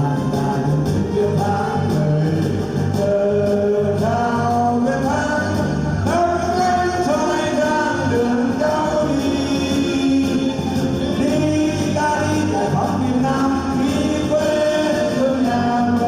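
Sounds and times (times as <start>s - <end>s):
accompanying music: 0.0s - 16.0s
person singing: 0.0s - 16.0s.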